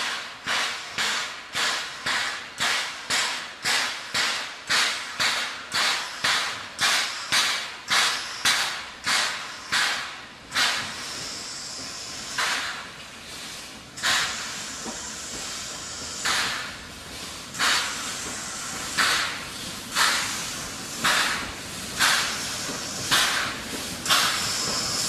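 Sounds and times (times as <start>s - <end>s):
steam hissing: 0.0s - 25.0s
steam locomotive chuffing: 0.0s - 25.0s.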